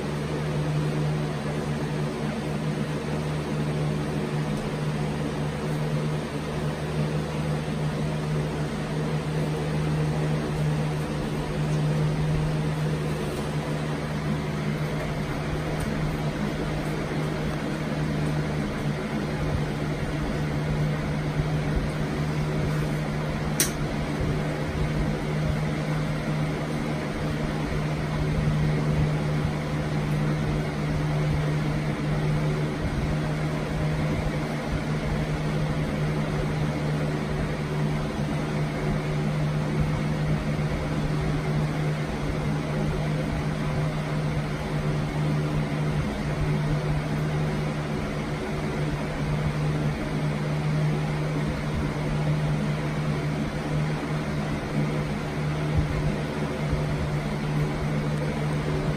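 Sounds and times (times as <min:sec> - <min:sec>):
fan running: 0:00.0 - 0:58.9.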